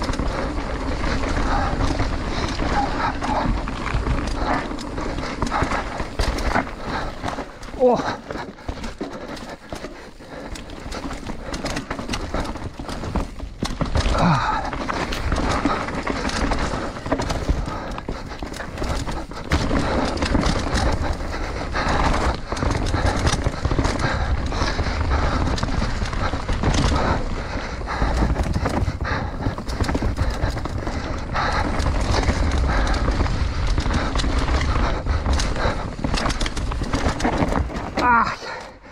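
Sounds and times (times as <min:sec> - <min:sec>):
bike rattling and knocking: 0:00.0 - 0:38.9
bike tyres rumbling over dirt: 0:00.0 - 0:38.9.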